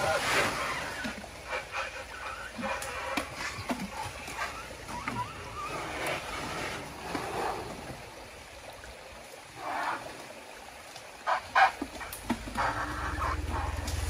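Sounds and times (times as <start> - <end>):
stream trickling: 0.0 - 14.0.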